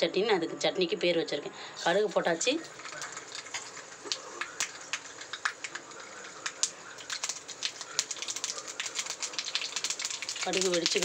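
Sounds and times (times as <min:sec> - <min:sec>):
faint oil sizzle: 0:01.6 - 0:11.0
mustard seeds popping in oil: 0:01.9 - 0:11.0.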